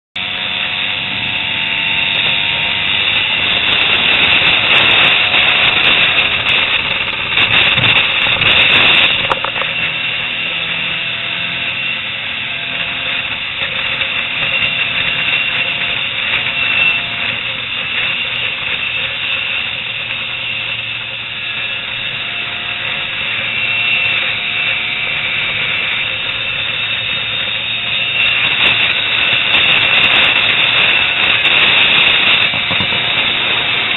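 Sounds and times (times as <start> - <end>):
small motorcycle engines: 0.2 - 33.9
wind rush on microphone: 0.2 - 33.9.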